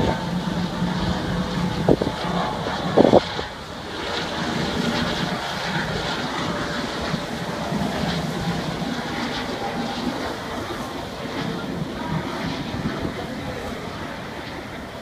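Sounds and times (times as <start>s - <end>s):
ferry engine drone: 0.0s - 15.0s
helicopter flying by: 0.0s - 15.0s
wind on microphone: 0.0s - 15.0s.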